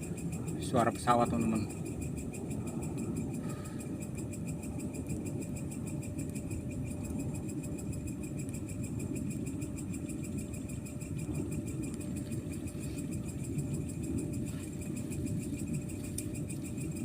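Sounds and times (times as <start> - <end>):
aircraft rumble overhead: 0.0 - 17.0
faint rapid high pulsing: 0.0 - 17.0.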